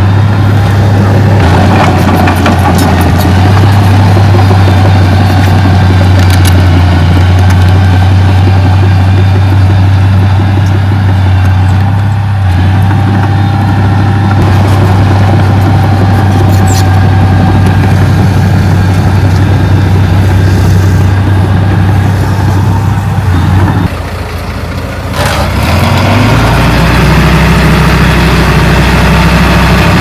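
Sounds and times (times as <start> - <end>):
heavy diesel engine humming: 0.0 - 30.0.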